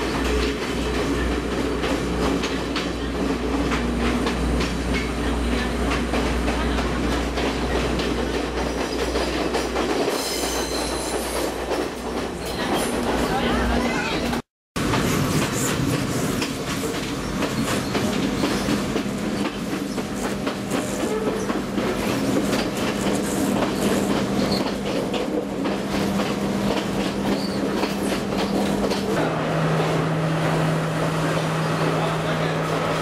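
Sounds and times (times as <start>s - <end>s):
train wheels clattering on track: 0.0s - 33.0s.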